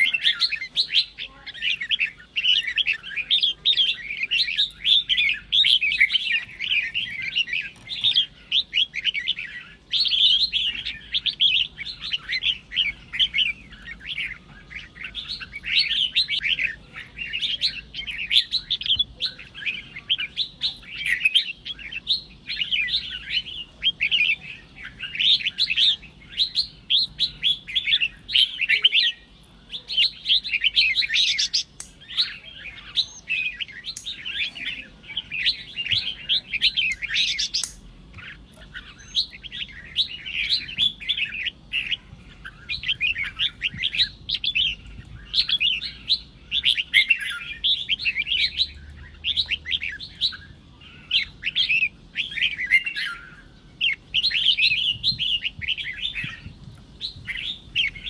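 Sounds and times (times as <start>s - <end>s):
bird warbling chirpy song: 0.0s - 58.0s.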